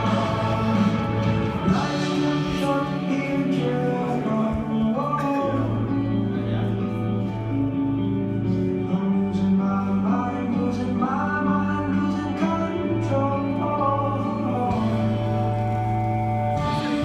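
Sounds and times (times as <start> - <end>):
guitar and instrumental chords: 0.0 - 17.0
person singing: 0.0 - 17.0.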